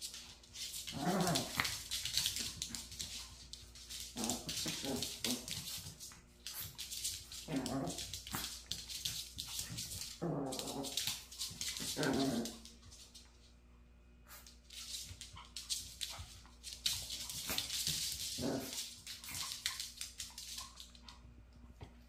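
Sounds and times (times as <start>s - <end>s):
paws scrabbling on laminate floor: 0.0s - 13.7s, 14.3s - 22.0s.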